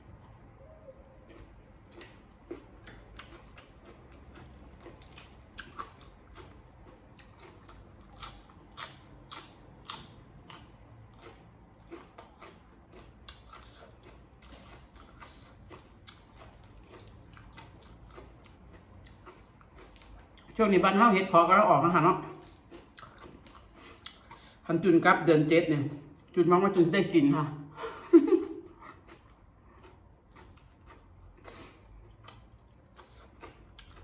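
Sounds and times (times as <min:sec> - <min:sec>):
chewing crunchy food: 0:01.1 - 0:20.6, 0:22.2 - 0:24.7, 0:28.6 - 0:34.0.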